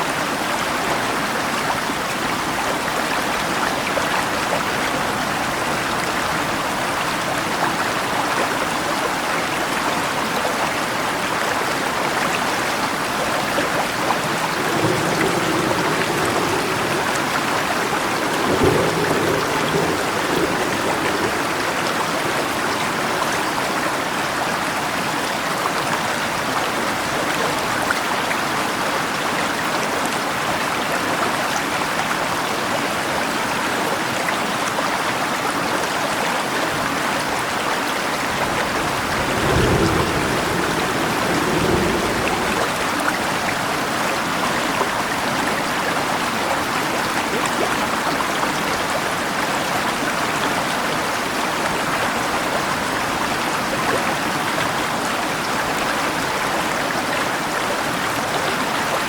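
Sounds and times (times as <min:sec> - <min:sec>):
river rushing: 0:00.1 - 0:34.3, 0:36.7 - 0:59.0.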